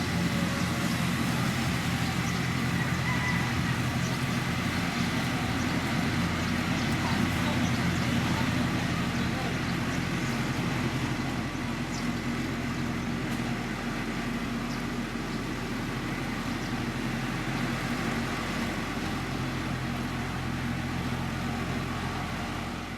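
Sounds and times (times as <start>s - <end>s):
diesel engine drone: 0.0s - 22.9s.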